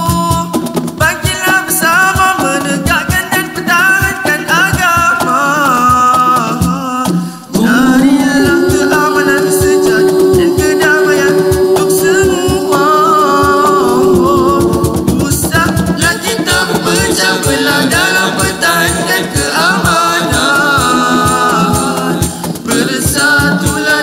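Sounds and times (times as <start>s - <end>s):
group singing together: 0.0s - 24.0s
hand drum percussion: 0.0s - 24.0s.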